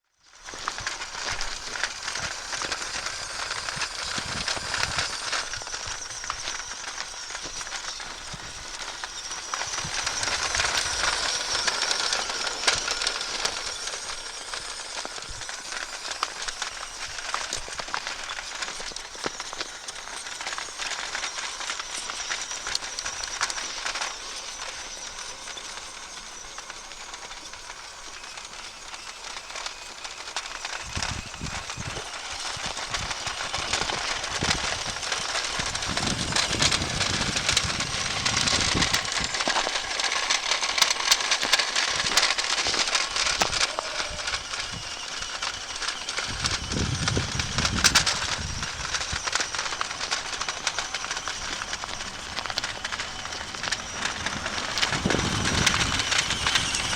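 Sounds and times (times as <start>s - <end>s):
model truck clatter on snow: 0.2s - 56.9s.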